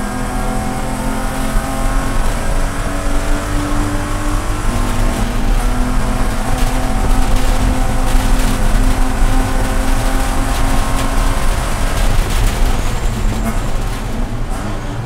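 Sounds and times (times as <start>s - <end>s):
race car engine at high revs: 0.0s - 15.0s
wind and road noise: 0.0s - 15.0s.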